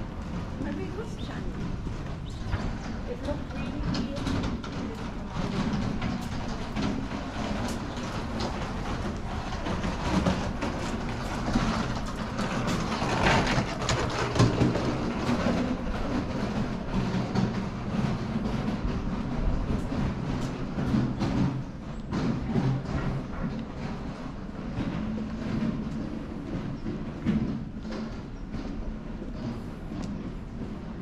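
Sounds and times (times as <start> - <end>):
footsteps on stone paving: 0.0 - 31.0
low town rumble: 0.0 - 31.0.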